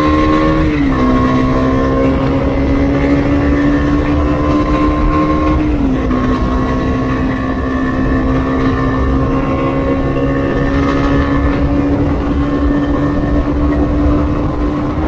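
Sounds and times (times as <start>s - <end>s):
motorcycle engine cruising: 0.0s - 15.0s
wind and road noise: 0.0s - 15.0s.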